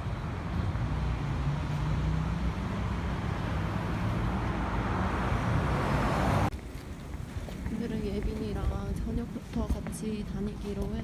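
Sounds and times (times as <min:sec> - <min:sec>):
road noise hiss: 0:00.0 - 0:11.0.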